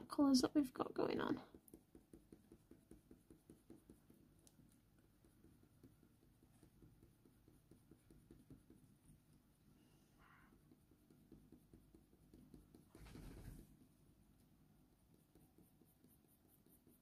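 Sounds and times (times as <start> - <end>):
coloured pencil scratching paper: 1.3 - 9.4, 10.2 - 13.8, 15.1 - 17.0.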